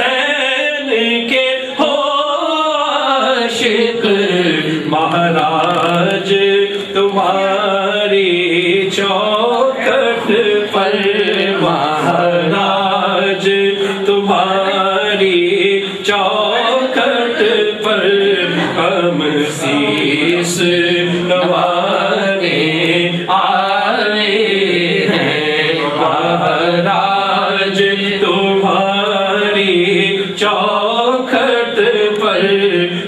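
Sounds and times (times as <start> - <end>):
person singing devotional song: 0.0 - 33.0.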